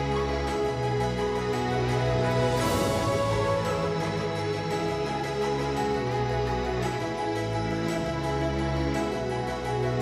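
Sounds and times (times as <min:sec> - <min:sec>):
gentle instrumental music: 0:00.0 - 0:10.0.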